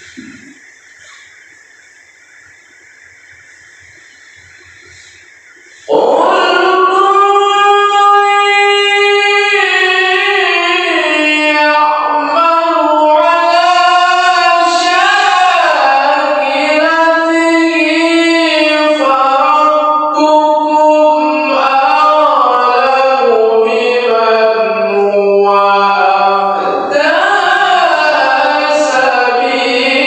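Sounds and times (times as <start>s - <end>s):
person chanting recitation: 4.9s - 30.0s.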